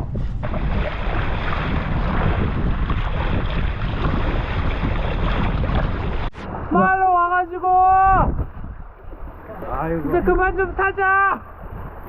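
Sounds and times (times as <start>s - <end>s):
sea water splashing: 0.0s - 12.0s
wind buffeting microphone: 0.0s - 12.0s.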